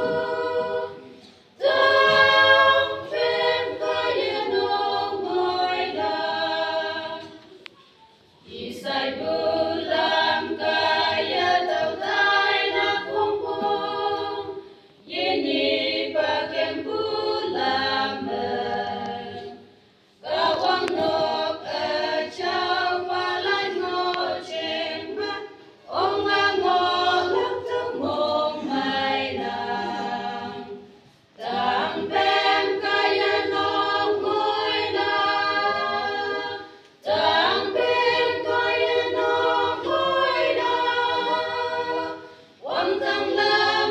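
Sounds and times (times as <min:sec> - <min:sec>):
women's choir singing a hymn: 0:00.0 - 0:43.9.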